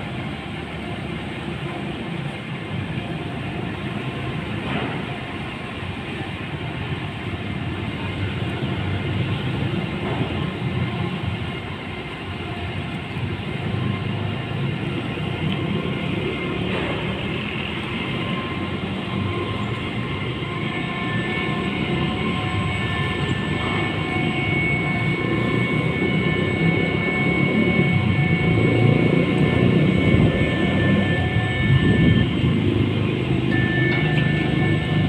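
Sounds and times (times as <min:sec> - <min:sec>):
faint high whining: 0:00.0 - 0:35.0
ship engines rumbling: 0:00.0 - 0:35.0.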